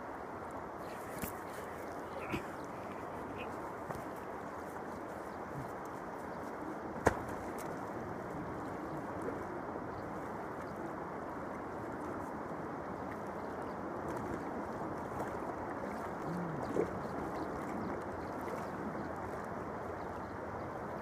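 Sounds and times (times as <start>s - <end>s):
flowing river water: 0.0s - 21.0s
wind: 0.0s - 21.0s.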